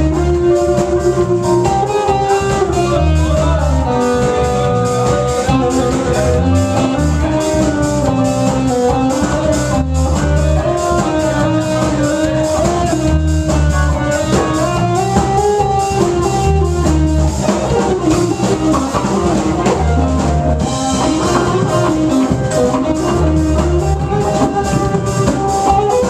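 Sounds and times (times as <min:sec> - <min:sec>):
live rock band playing: 0:00.0 - 0:26.0
repeating bass notes: 0:00.0 - 0:26.0.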